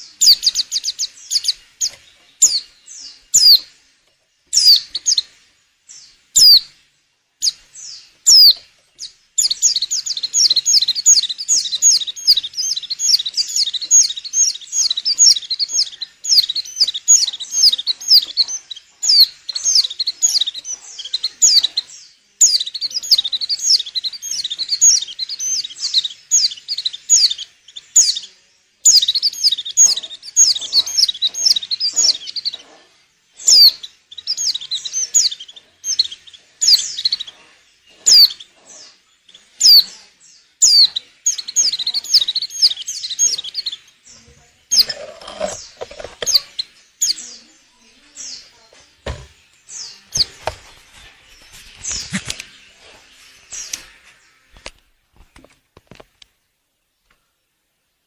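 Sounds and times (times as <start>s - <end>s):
bird chirps and trills: 0.0s - 54.7s.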